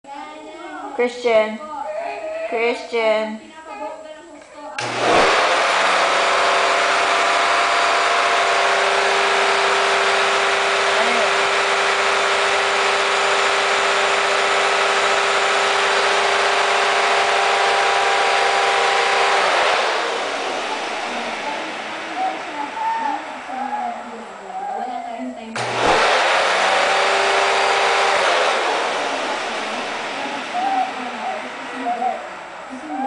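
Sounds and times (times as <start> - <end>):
vacuum cleaner motor running: 4.8 - 33.0.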